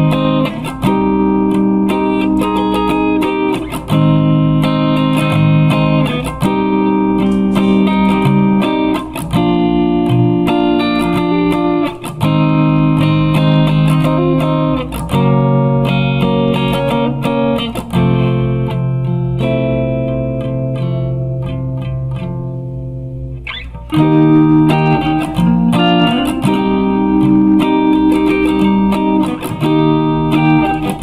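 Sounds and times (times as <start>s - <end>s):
guitar strumming chords: 0.0s - 31.0s.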